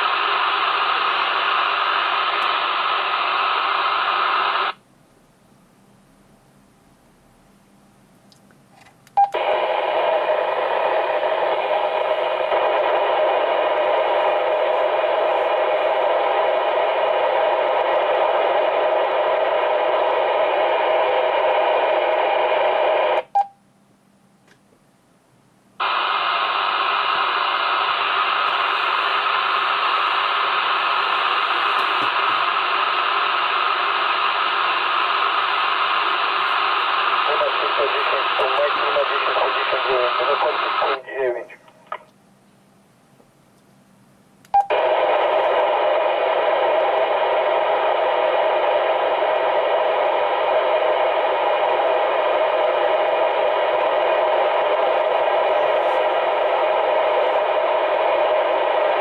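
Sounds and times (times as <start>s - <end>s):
radio static hiss: 0.0s - 4.8s, 9.3s - 23.4s, 25.8s - 42.1s, 44.6s - 59.0s.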